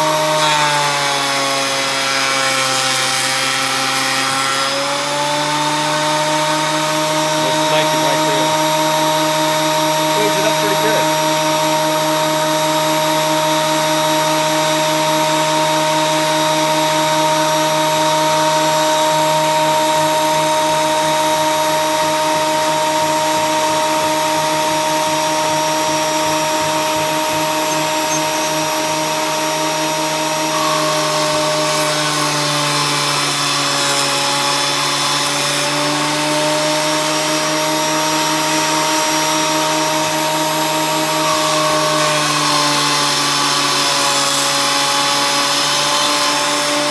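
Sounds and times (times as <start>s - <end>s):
board rasping through cutter: 0.0s - 46.9s
planer motor whine: 0.0s - 46.9s.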